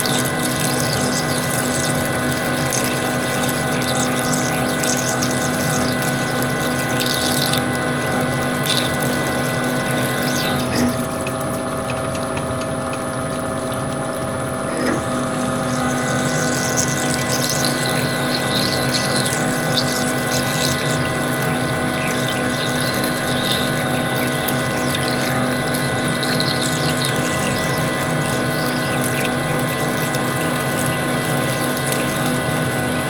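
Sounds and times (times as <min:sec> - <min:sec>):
metal lathe running: 0:00.0 - 0:11.4, 0:14.2 - 0:33.0
scratchy cutting noises: 0:00.0 - 0:11.6, 0:14.5 - 0:33.0.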